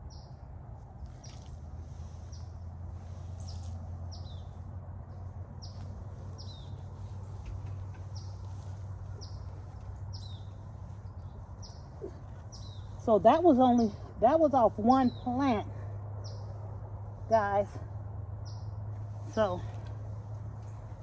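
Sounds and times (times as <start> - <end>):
bird chirping: 0.0 - 0.4, 1.0 - 19.8
steady low hum: 0.0 - 21.0.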